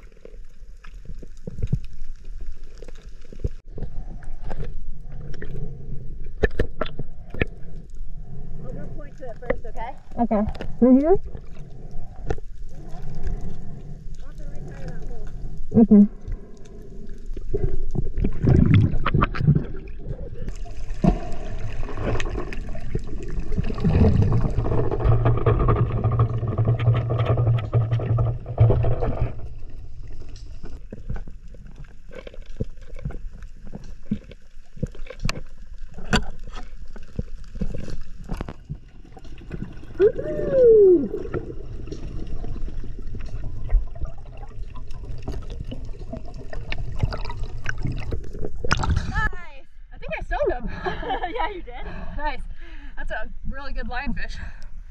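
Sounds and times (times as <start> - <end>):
sharp underwater clicks and crackles: 0.0 - 49.3.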